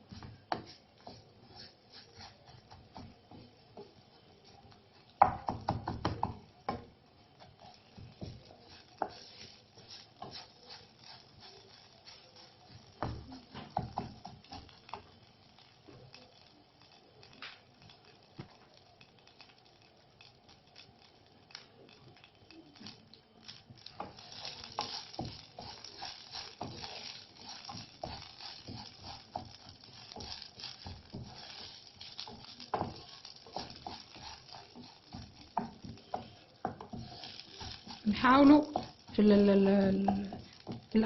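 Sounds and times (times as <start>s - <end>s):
seeds popping in hot oil: 0.0s - 41.0s.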